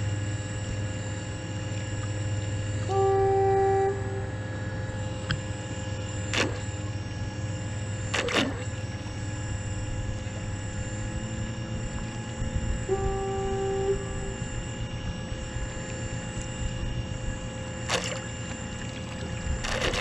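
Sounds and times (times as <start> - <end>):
motor humming and whining: 0.0 - 20.0.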